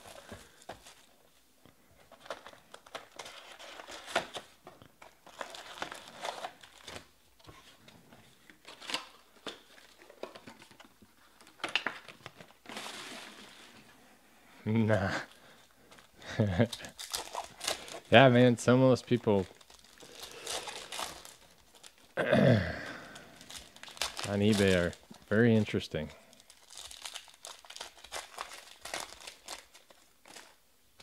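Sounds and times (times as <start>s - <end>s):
foil wrappers crinkling: 0.0s - 1.1s, 2.0s - 7.1s, 8.4s - 13.9s, 15.1s - 22.2s, 23.0s - 31.0s.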